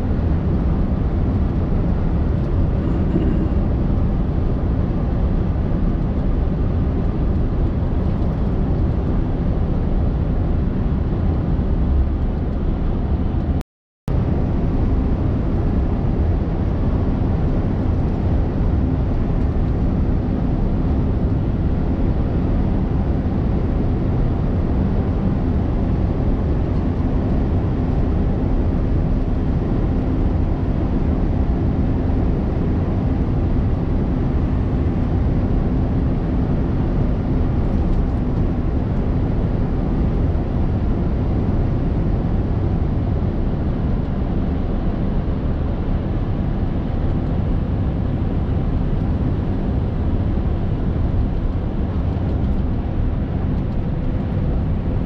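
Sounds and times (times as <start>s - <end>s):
truck engine drone in cab: 0.0s - 55.0s.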